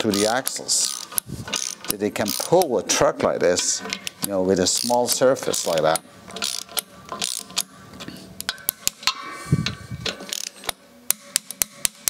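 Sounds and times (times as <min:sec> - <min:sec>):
ratchet wrench clicking: 0:00.0 - 0:02.7, 0:03.9 - 0:07.7, 0:08.4 - 0:12.0.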